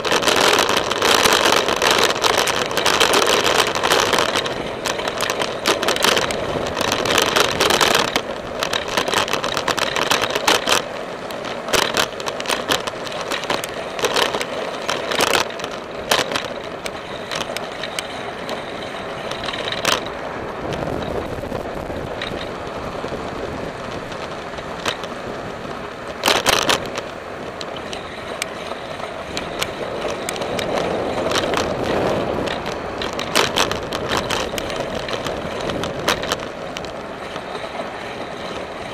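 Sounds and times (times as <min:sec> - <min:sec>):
bicycle clicks and rattles: 0:00.0 - 0:38.9
bicycle tyre and wind noise: 0:00.0 - 0:38.9.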